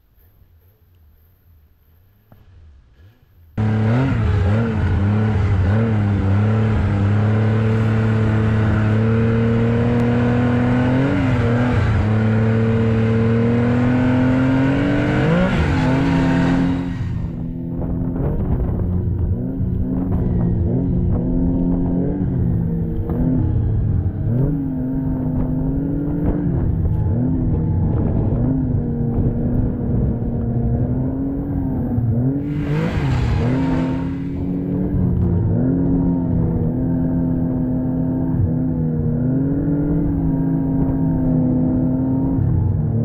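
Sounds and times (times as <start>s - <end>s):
snowmobile engine running: 3.6s - 38.8s.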